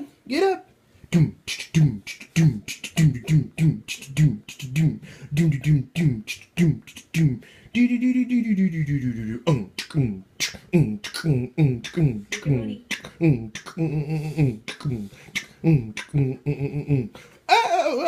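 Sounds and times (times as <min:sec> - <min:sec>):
person beatboxing: 0:01.1 - 0:17.2.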